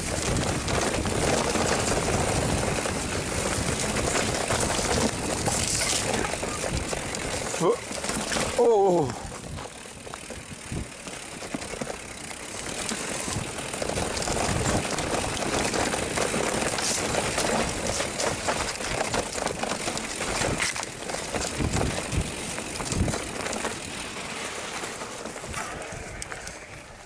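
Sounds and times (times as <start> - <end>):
bike knocking and rattling: 0.0 - 27.0
bike tyres rushing on dirt: 0.0 - 27.0.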